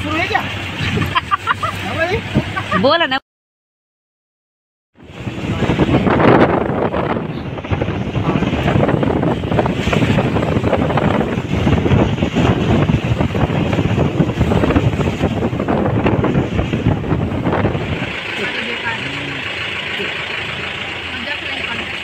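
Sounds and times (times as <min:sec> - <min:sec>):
wind buffeting microphone: 0:00.0 - 0:02.8, 0:05.0 - 0:22.0
road noise: 0:00.0 - 0:03.2, 0:04.9 - 0:22.0.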